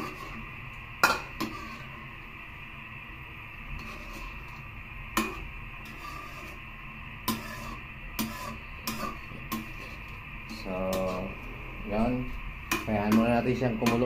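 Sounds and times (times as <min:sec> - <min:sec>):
metal spoon scraping a wok: 0:00.0 - 0:02.0, 0:03.6 - 0:14.0
steady low hiss: 0:00.0 - 0:14.0.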